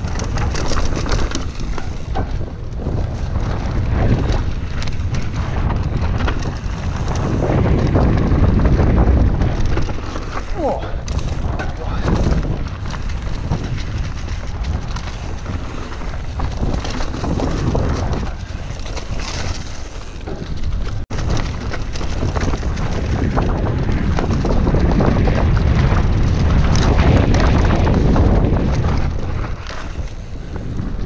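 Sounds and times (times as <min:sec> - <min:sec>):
bike rattling and knocking: 0:00.0 - 0:31.0
bike tyres rumbling on dirt: 0:00.0 - 0:31.0
wind buffeting microphone: 0:00.0 - 0:31.0.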